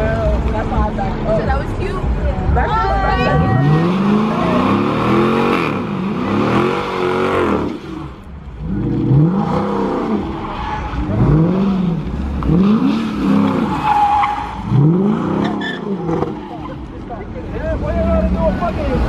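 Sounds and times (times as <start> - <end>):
car engine revving: 0.0 - 19.0
tyres skidding on pavement: 0.0 - 19.0.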